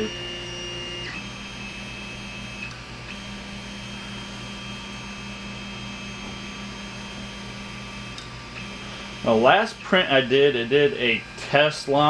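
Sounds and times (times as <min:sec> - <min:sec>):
printer electronic whine: 0:00.0 - 0:12.0.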